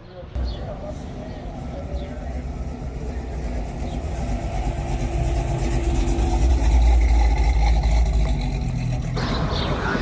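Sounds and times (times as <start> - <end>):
car engine running: 0.4 - 10.0.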